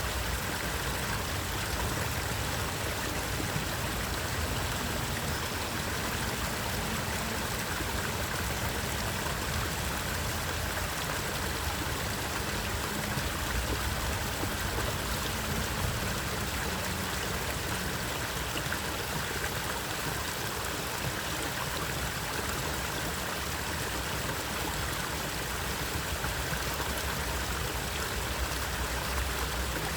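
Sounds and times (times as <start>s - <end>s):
stream water flowing: 0.0s - 29.9s.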